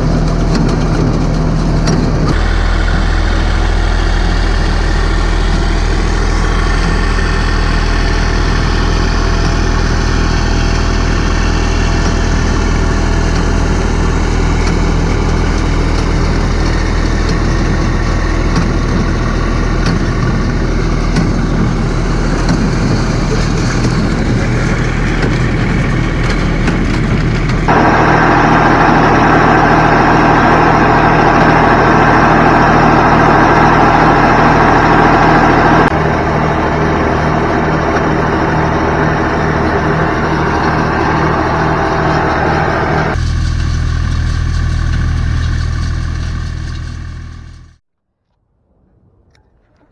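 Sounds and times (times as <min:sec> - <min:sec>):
tractor diesel engine running: 0:00.0 - 0:47.8.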